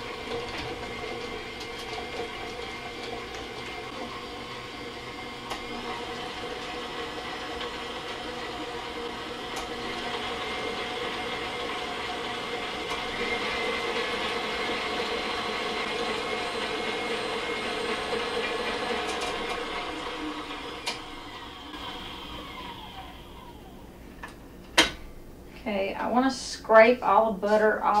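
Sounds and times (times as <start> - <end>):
stand mixer motor humming: 0.0 - 24.0.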